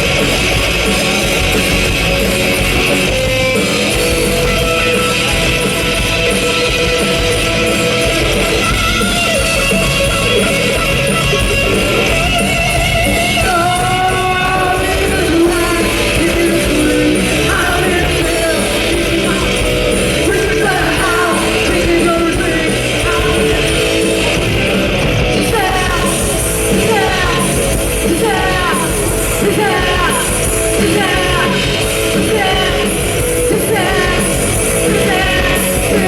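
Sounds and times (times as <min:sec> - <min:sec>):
electric guitar: 0:00.0 - 0:36.0
live rock band playing: 0:00.0 - 0:36.0.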